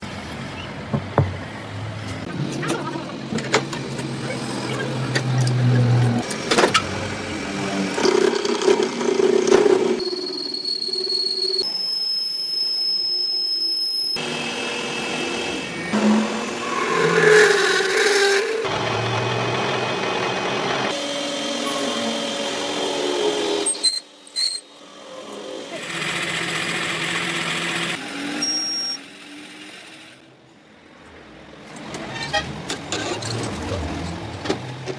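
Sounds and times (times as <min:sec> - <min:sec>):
workshop machinery noise: 0:00.0 - 0:34.9.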